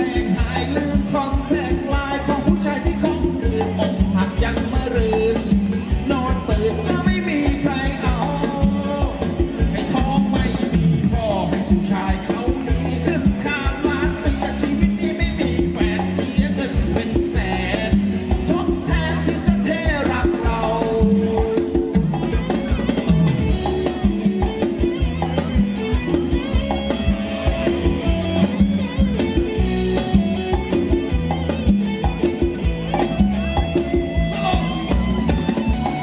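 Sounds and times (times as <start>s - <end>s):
drum kit beat: 0.0s - 36.0s
live band playing dance music: 0.0s - 36.0s.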